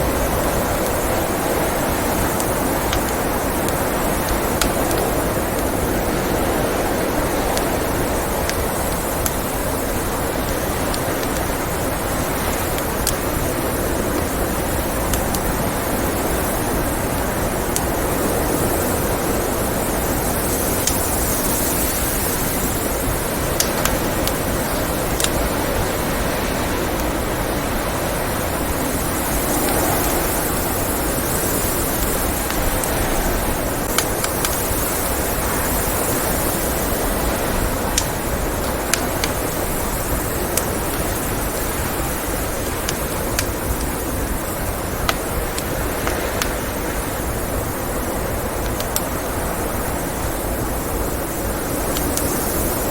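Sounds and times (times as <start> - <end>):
blizzard wind blowing: 0.0 - 52.9
wood fire popping and crackling: 0.0 - 52.9.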